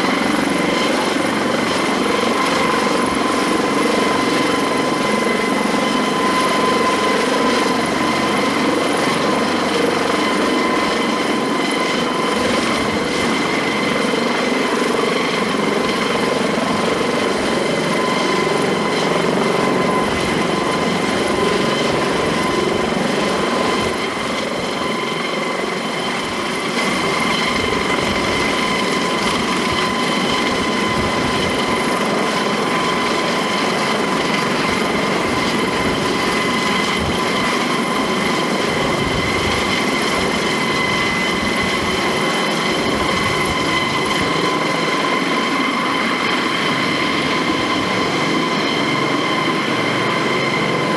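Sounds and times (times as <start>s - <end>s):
helicopter running: 0.0s - 50.9s.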